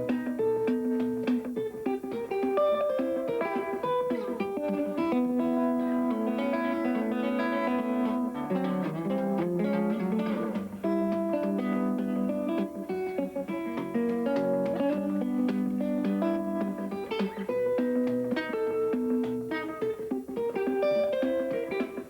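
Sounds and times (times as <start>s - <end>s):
fingerpicked guitar: 0.0s - 22.0s.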